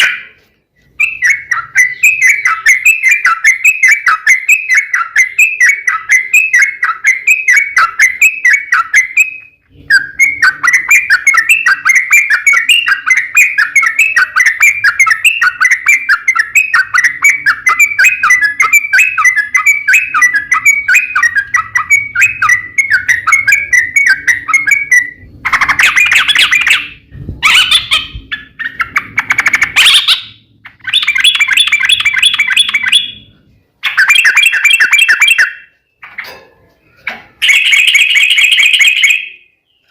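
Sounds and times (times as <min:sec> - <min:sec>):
bird singing chattering notes: 0:00.0 - 0:36.3, 0:36.9 - 0:39.9.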